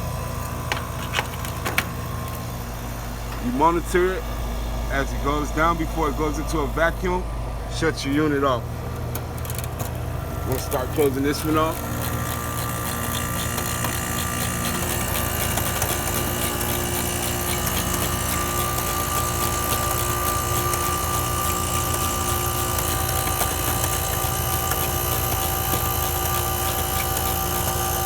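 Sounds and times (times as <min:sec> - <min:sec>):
air conditioner compressor humming: 0:00.0 - 0:28.0
thin steady whine: 0:00.0 - 0:28.0.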